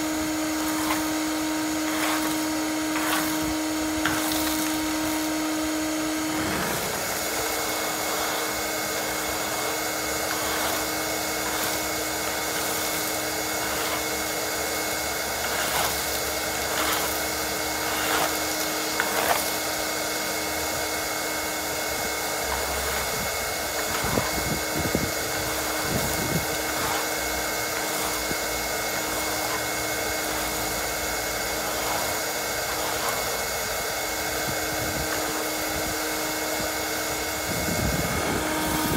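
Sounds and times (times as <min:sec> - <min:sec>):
shop vacuum motor hum: 0:00.0 - 0:38.9.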